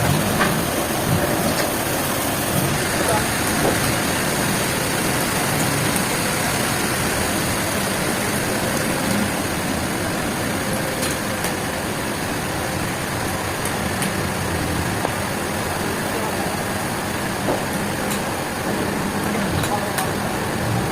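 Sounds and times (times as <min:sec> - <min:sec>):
heavy machinery running: 0:00.0 - 0:20.9.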